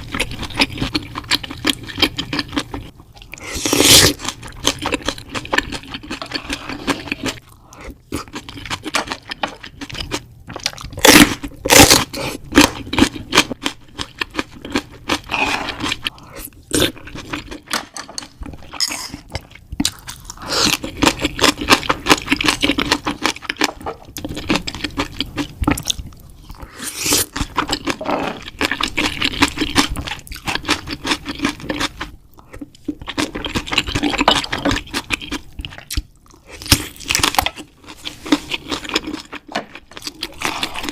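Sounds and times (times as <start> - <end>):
person chewing and crunching food: 0.0 - 40.9.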